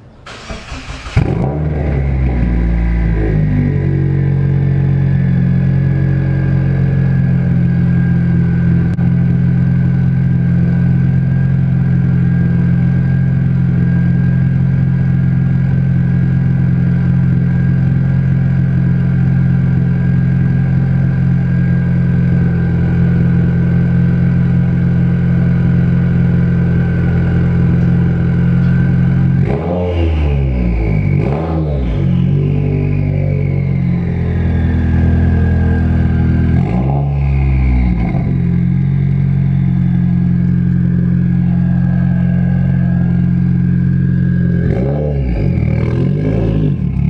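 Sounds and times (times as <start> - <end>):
car engine idling: 0.0 - 29.9, 30.5 - 47.0.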